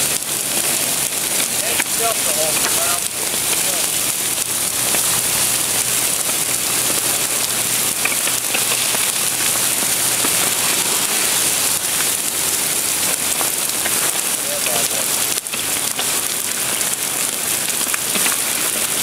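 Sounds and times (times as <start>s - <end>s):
rain on wet pavement: 0.0s - 19.0s.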